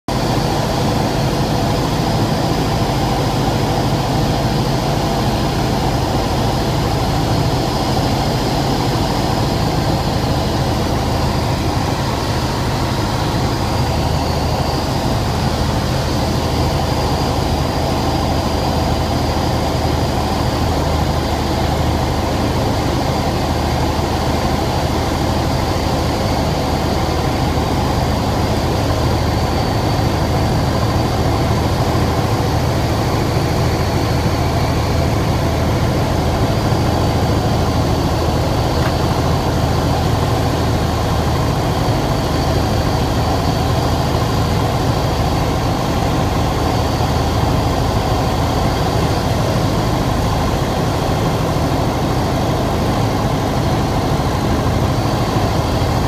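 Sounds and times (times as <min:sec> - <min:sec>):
propeller plane engine droning: 0:00.1 - 0:56.0.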